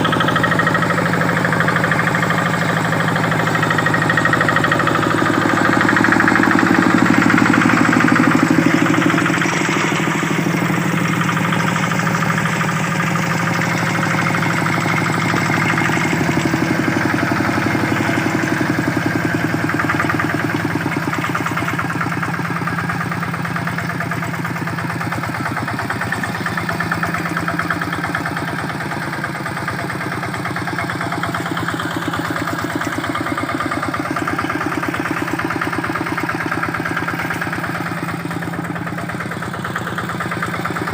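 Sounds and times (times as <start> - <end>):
diesel engine chugging: 0.0 - 40.9.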